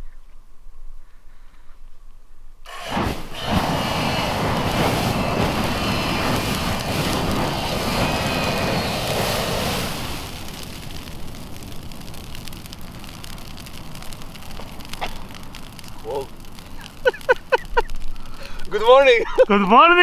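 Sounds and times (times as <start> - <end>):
bush burning crackle: 2.6 - 20.0
flamethrower rushing hiss: 2.6 - 20.0.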